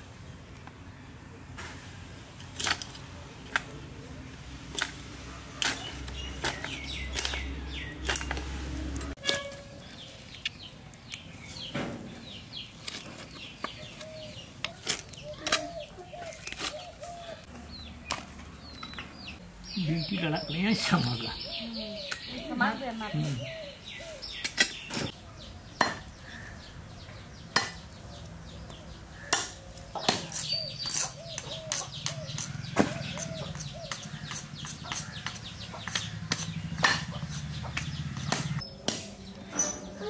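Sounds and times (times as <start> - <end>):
birds calling: 3.5 - 40.0.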